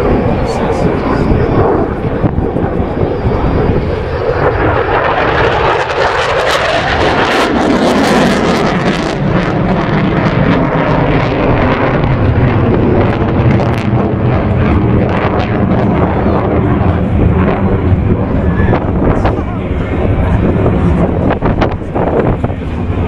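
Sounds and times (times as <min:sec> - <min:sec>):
fighter jet flying past: 0:00.0 - 0:23.0.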